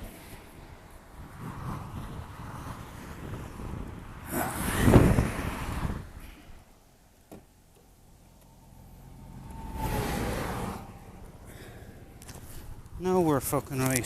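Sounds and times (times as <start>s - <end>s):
road traffic passing: 0.0s - 14.0s.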